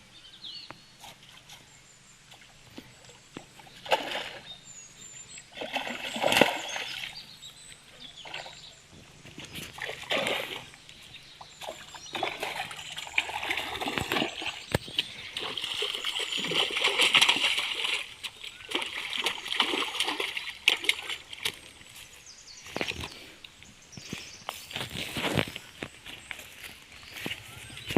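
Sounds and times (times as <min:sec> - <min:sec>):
water splashing and sloshing: 0:01.0 - 0:27.9.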